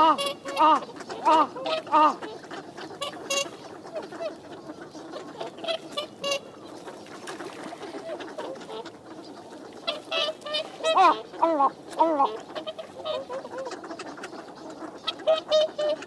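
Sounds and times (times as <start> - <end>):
swans and ducks calling: 0.0 - 16.0.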